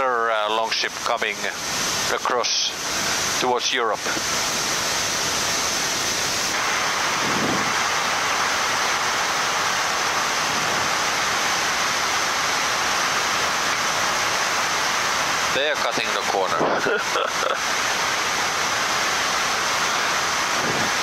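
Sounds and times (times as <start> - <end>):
air rushing around cockpit: 0.0 - 21.0.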